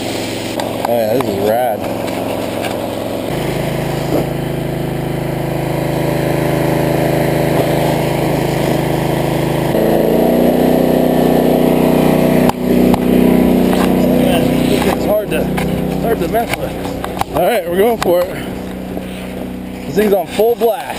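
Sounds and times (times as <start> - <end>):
water pump engine running: 0.0 - 20.9.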